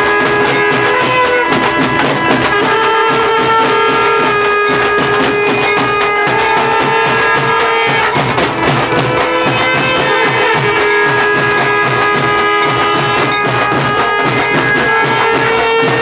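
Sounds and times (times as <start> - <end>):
drums beating steady rhythm: 0.0 - 16.0
wind instrument long notes: 0.0 - 16.0.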